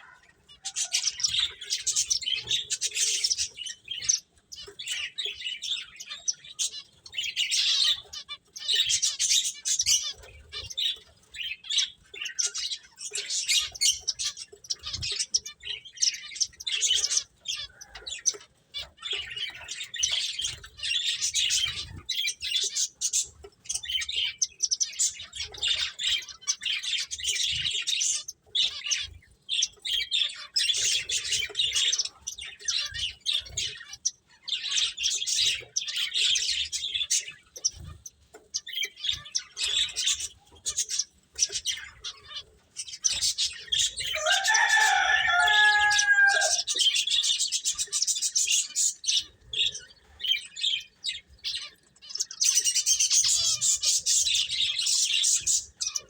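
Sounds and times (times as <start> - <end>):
finches chirping: 0.0 - 56.0.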